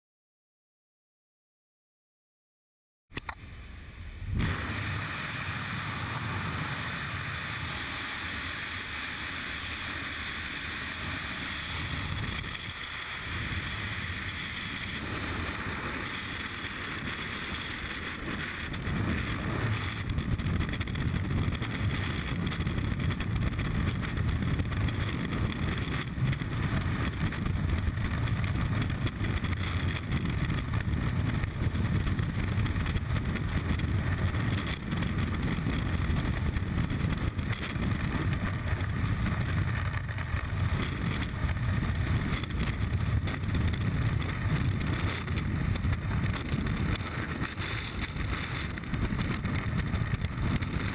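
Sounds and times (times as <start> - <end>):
aircraft engine and propeller: 3.2 - 50.9.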